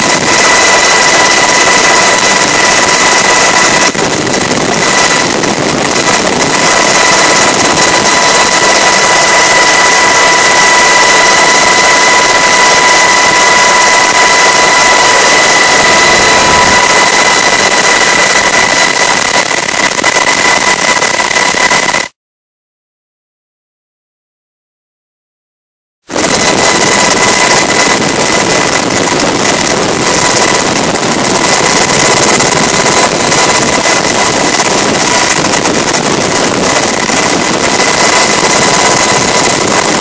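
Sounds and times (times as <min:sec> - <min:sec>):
helicopter rotor drone: 0:00.0 - 0:22.2, 0:26.1 - 0:40.0
high turbine whine: 0:00.0 - 0:22.2, 0:26.1 - 0:40.0.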